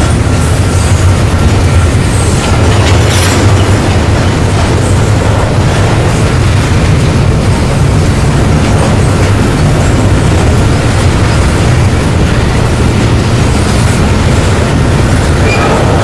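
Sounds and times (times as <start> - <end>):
train rolling past: 0.0 - 16.0.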